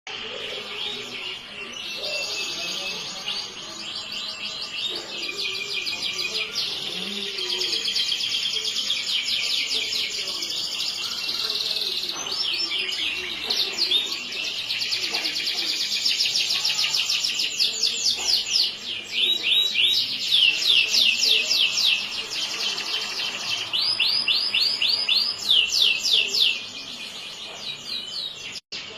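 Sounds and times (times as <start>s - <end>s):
canary singing trills: 0.1s - 28.9s.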